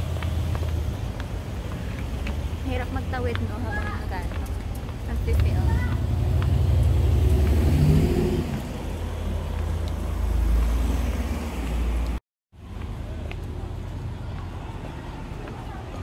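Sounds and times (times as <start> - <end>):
quiet street noise: 0.0 - 16.0
traffic rumble: 0.0 - 16.0.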